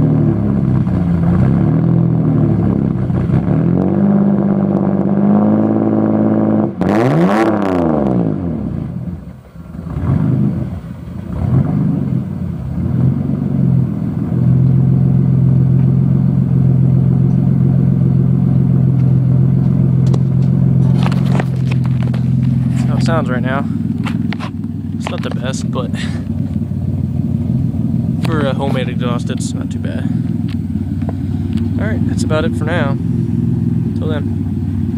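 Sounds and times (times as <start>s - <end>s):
truck engine revving and idling: 0.0s - 34.9s.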